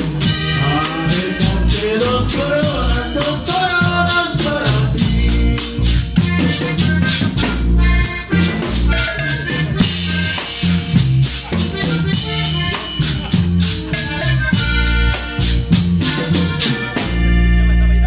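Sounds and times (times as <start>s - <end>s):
instrumental band music: 0.0s - 18.0s.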